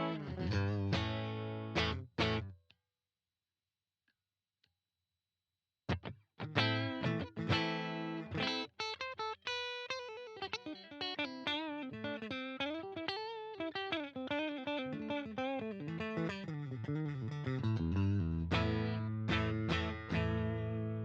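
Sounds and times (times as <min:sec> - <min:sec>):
electric guitar playing: 0:00.0 - 0:02.5, 0:05.9 - 0:21.0.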